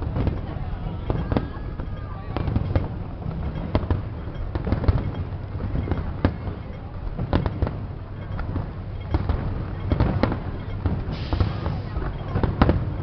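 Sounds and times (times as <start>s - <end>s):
continuous low rumble: 0.0s - 13.0s
fireworks bursting bangs: 0.0s - 13.0s.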